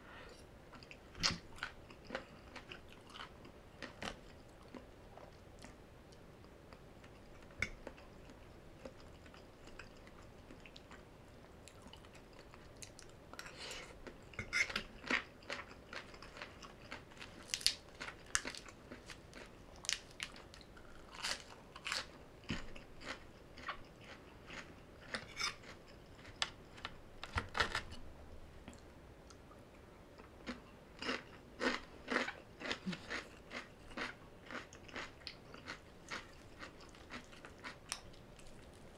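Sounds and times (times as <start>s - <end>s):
person chewing crunchy salad: 0.7s - 5.8s, 6.4s - 26.9s, 30.2s - 38.9s.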